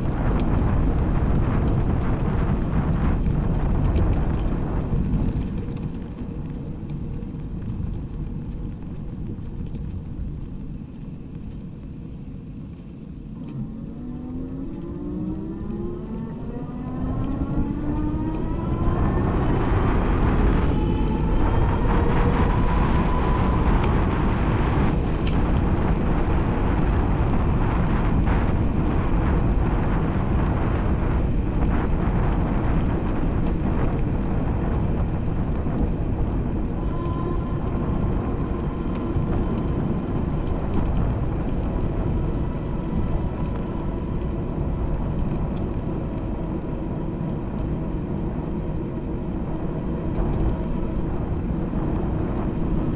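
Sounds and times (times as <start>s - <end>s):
rising whine: 0.0s - 52.9s
wheels rolling on pavement: 0.0s - 52.9s
wind noise on microphone: 0.0s - 52.9s.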